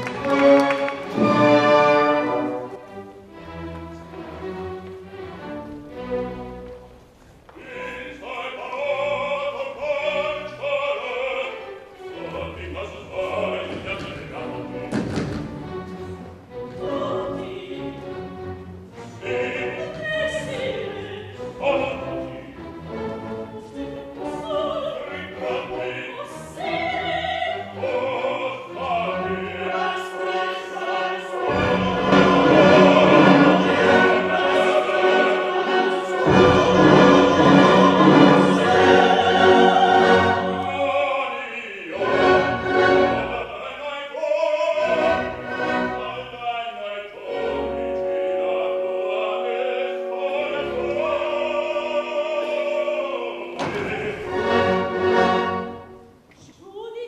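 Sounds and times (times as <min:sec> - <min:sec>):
chorus singing: 0:00.0 - 0:03.2, 0:07.5 - 0:56.1
orchestra playing: 0:00.0 - 0:56.3
solo opera singers: 0:07.4 - 0:57.0.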